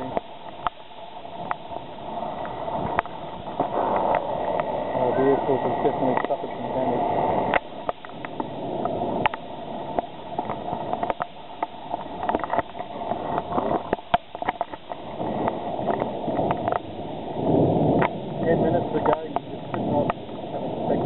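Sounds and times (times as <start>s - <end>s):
sharp ticks and clicks: 0.0s - 4.8s, 5.9s - 6.6s, 7.3s - 17.0s, 18.0s - 20.4s
water wash: 0.0s - 21.0s.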